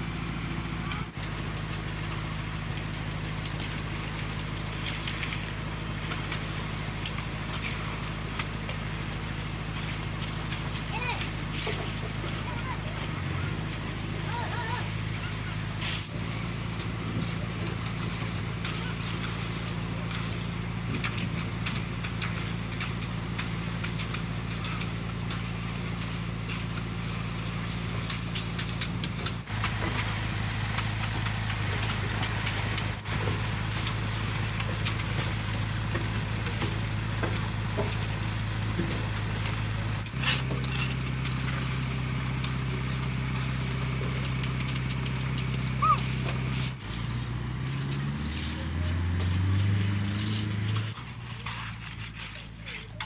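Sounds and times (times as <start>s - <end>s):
diesel engine of heavy machinery: 0.0s - 53.0s.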